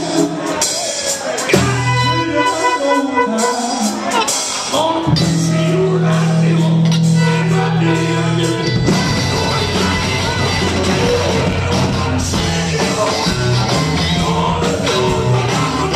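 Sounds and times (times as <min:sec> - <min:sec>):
live rockabilly band playing: 0:00.0 - 0:15.9
person singing: 0:00.0 - 0:15.9.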